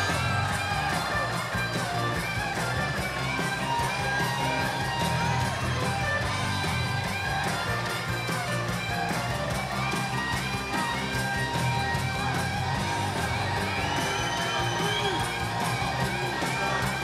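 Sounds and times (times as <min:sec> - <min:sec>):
guitar-driven music: 0:00.0 - 0:17.0.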